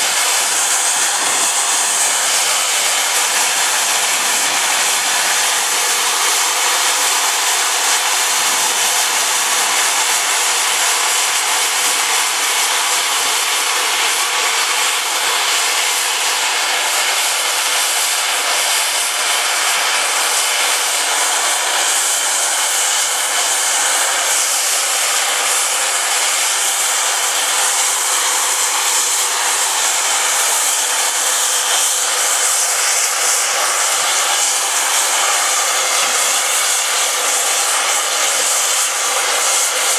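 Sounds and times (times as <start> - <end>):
steam hissing from locomotive: 0.0 - 39.9.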